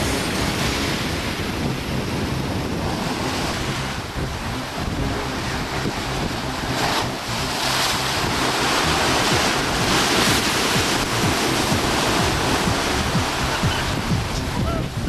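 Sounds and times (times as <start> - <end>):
surf breaking over rocks: 0.0 - 15.0
wind buffeting microphone: 0.0 - 15.0.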